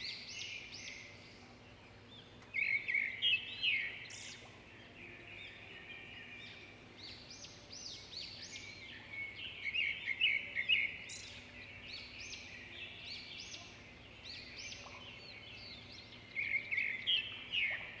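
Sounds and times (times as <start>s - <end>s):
small birds chirping and twittering: 0.0s - 18.0s.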